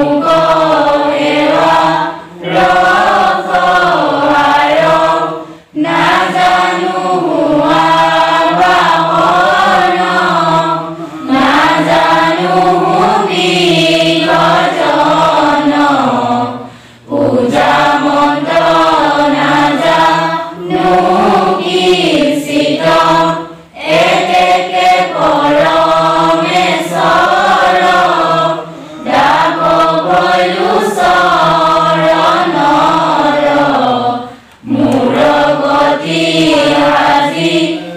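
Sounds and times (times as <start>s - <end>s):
group chanting a prayer: 0.0s - 37.9s.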